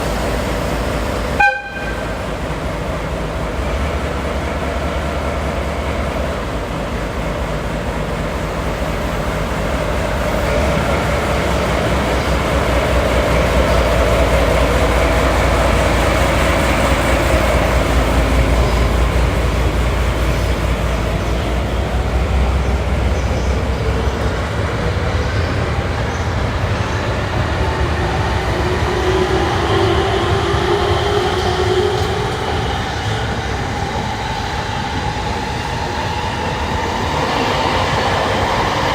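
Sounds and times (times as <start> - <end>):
locomotive diesel engine rumble: 0.0 - 38.9.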